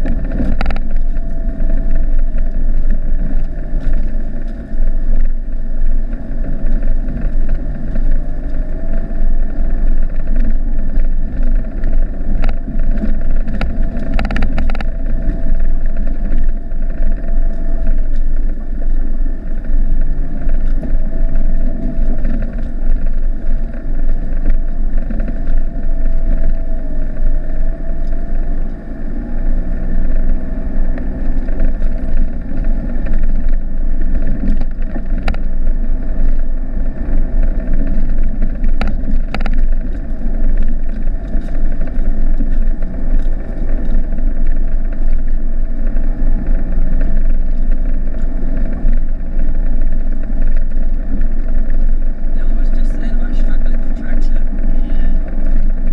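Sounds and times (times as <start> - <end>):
diesel engine drone with whine: 0.0 - 55.9.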